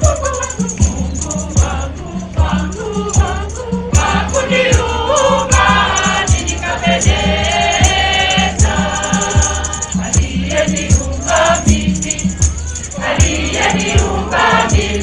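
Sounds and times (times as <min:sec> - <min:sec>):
choir singing gospel: 0:00.0 - 0:15.0
low drum beat: 0:00.0 - 0:15.0.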